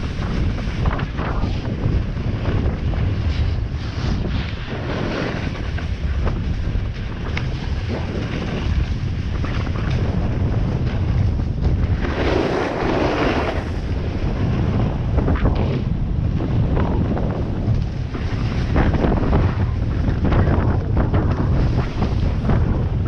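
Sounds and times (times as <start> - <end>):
snowboard scraping over snow: 0.0 - 23.0
wind rushing over microphone: 0.0 - 23.0.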